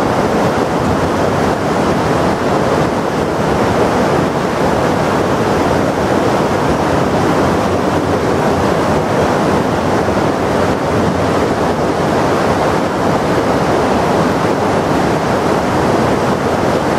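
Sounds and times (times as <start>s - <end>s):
mountain torrent rushing: 0.0s - 16.9s.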